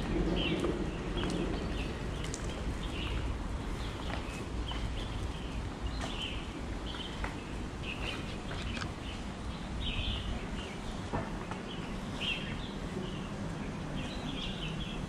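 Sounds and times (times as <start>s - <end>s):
steady low rumble: 0.0s - 15.0s
small birds chirping: 0.1s - 15.0s.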